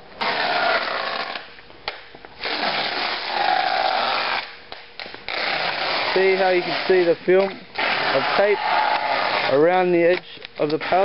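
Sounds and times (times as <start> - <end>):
packaging tape pulled off roll: 0.2 - 9.6.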